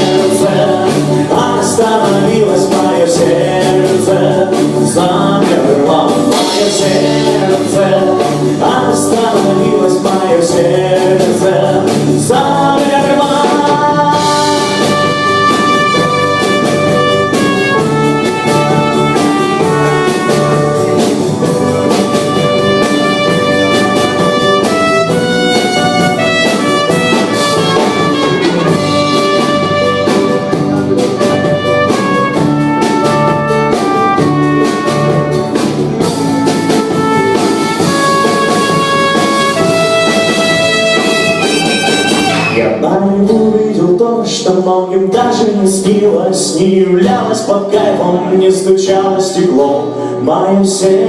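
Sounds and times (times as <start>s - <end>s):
melodic lead line: 0.0s - 42.8s
drum kit beat: 0.0s - 43.6s
live rock band playing: 0.0s - 51.0s.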